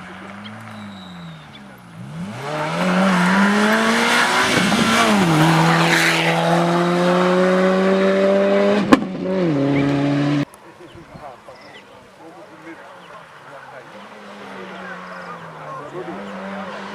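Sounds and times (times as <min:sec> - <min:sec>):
rally car engine revving hard: 0:00.0 - 0:10.5, 0:13.2 - 0:16.9.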